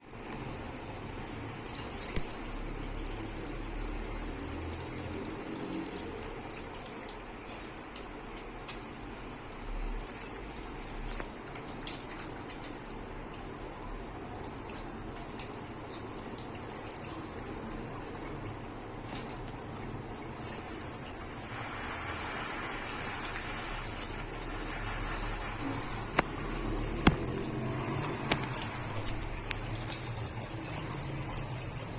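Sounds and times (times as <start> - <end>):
running water: 0.0 - 31.9
small drips and splashes: 0.0 - 31.9.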